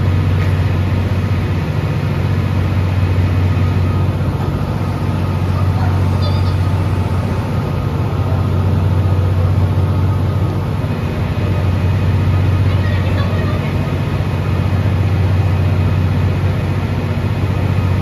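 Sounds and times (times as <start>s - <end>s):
train coach equipment humming: 0.0s - 18.0s.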